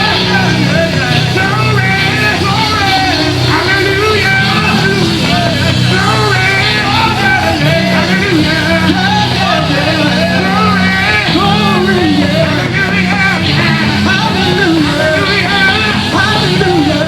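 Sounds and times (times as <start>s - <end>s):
live gospel band with singing: 0.0s - 17.0s.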